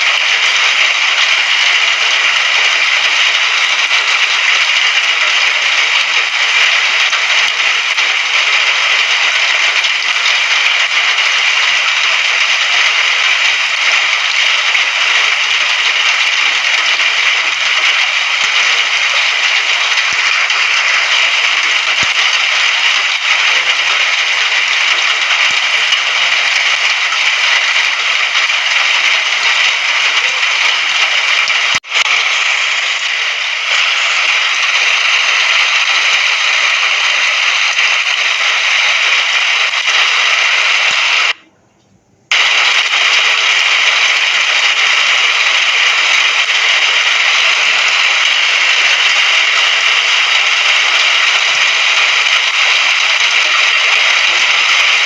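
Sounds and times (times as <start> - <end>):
dense rain hiss: 0.0 - 41.4, 42.3 - 55.0.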